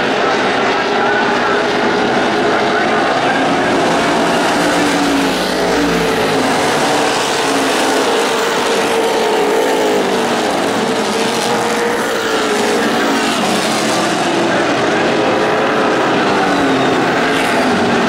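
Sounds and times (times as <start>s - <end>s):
racing car engines droning: 0.0s - 18.0s.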